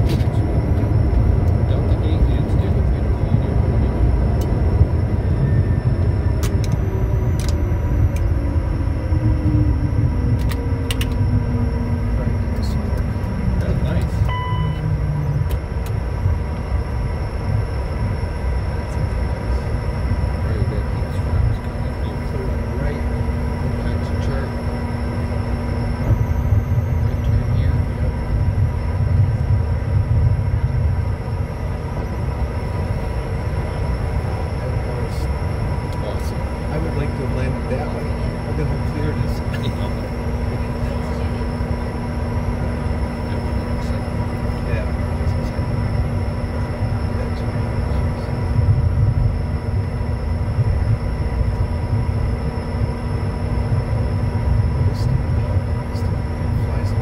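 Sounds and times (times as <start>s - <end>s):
jet engine whine: 0.0s - 57.0s
wheels and airframe rumbling: 0.0s - 57.0s.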